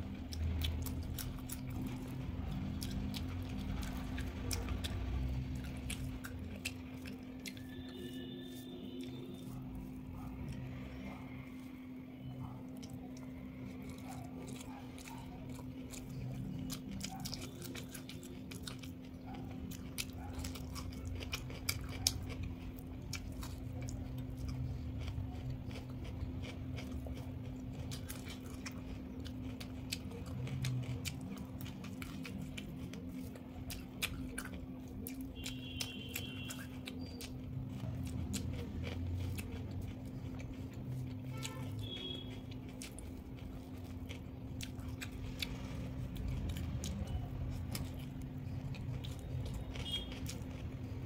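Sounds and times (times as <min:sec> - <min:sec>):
person chewing food: 0:00.0 - 0:51.0
steady low hum: 0:00.0 - 0:51.0.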